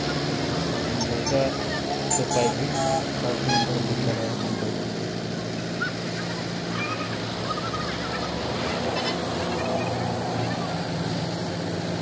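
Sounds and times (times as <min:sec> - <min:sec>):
machine engine humming: 0:00.0 - 0:12.0.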